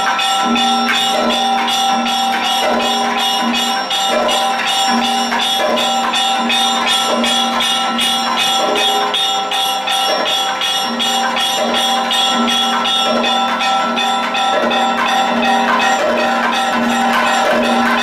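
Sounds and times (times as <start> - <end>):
bell-metal percussion ringing: 0.0 - 18.0.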